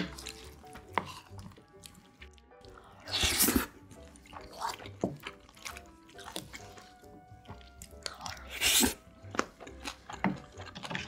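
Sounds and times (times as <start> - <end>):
close chewing and eating: 0.0 - 11.0
soft background music: 0.0 - 11.0.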